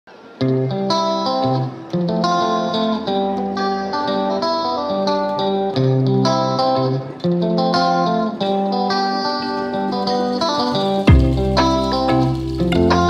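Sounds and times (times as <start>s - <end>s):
plucked guitar music: 0.1s - 13.0s.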